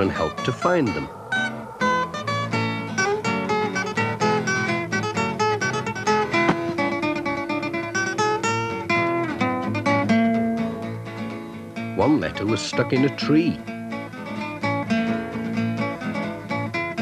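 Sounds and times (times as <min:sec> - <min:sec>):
plucked acoustic guitar music: 0:02.2 - 0:17.0.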